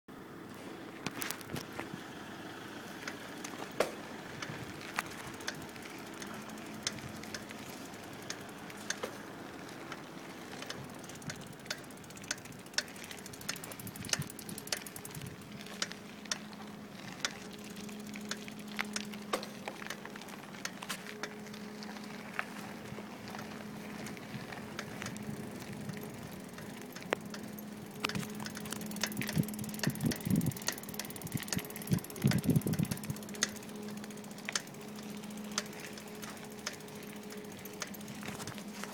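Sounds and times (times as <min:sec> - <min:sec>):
steady rolling noise: 0:00.2 - 0:38.9
bicycle wheel knocking: 0:03.0 - 0:38.9.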